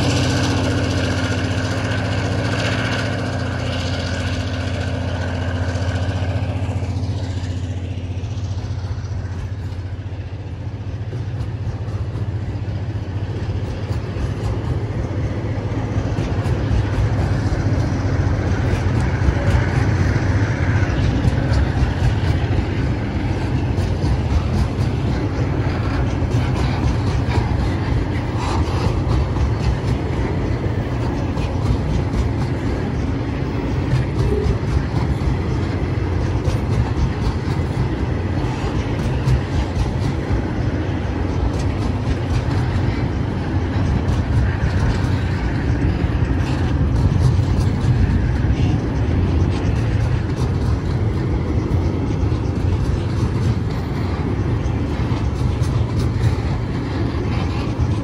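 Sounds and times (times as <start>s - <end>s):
freight train rolling past: 0.0s - 58.0s
rattle and clicking of wheels: 0.0s - 58.0s.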